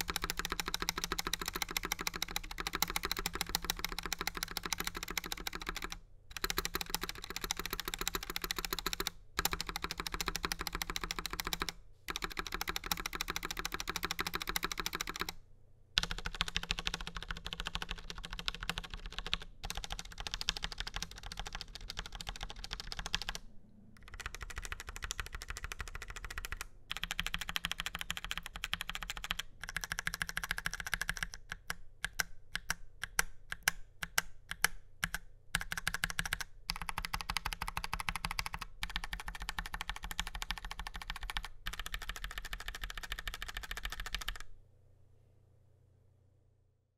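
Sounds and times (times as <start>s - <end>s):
mechanical keyboard typing: 0.0s - 15.4s, 16.0s - 23.4s, 24.0s - 44.5s.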